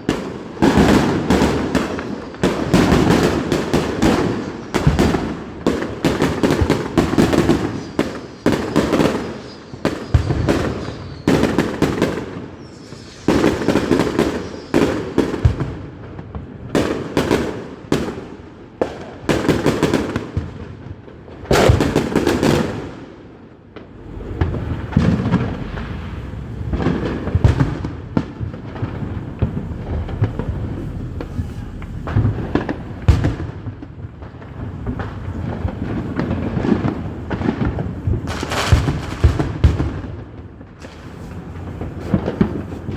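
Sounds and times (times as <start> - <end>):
fireworks bangs and pops: 0.0 - 42.9.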